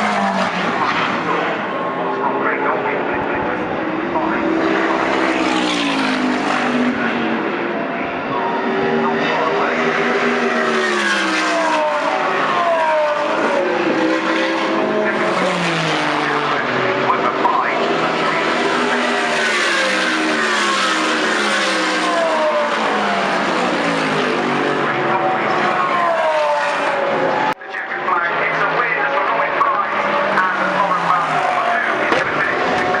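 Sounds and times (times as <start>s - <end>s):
race cars passing by: 0.0s - 33.0s.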